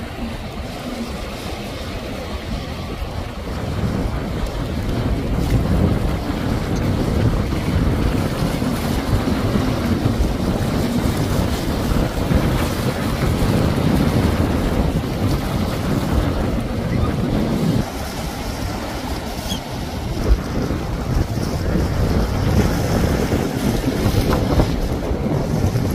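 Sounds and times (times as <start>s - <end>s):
personal watercraft running: 0.0s - 25.9s
surf: 0.0s - 25.9s
wind buffeting microphone: 0.0s - 25.9s.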